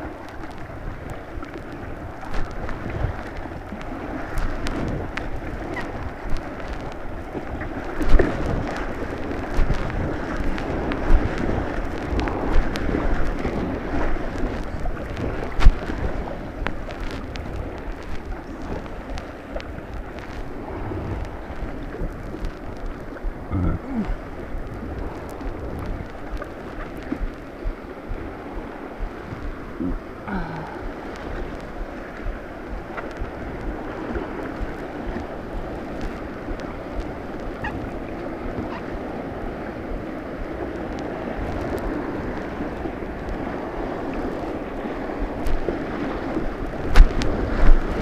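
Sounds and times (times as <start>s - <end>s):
paddle strokes splashing: 0.0s - 48.0s
white water rushing: 0.0s - 48.0s.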